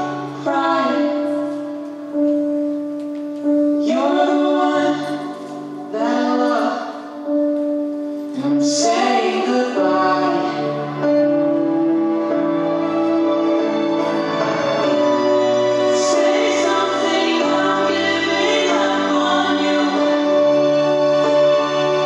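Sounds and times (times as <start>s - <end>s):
woman singing with music: 0.0s - 22.0s.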